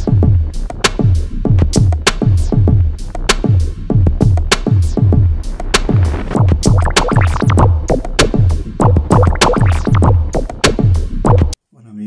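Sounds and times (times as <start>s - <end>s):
electronic drum-machine beat: 0.0s - 11.6s.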